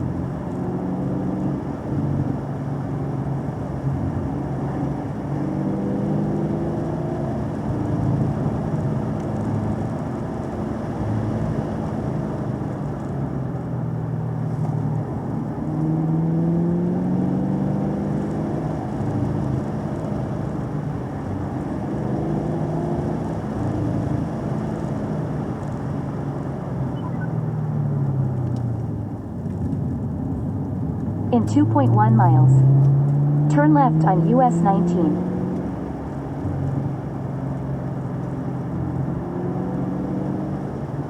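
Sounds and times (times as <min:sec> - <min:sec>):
car engine accelerating: 0:00.0 - 0:41.0
road and tyre noise: 0:00.0 - 0:41.0.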